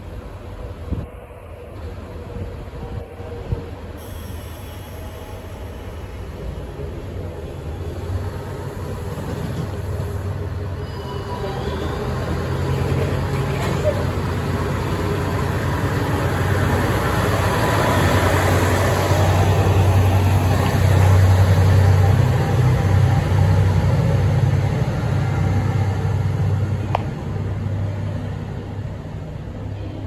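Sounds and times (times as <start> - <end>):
diesel railcar engine drone: 0.0 - 30.0
wheel and rail noise: 0.0 - 30.0.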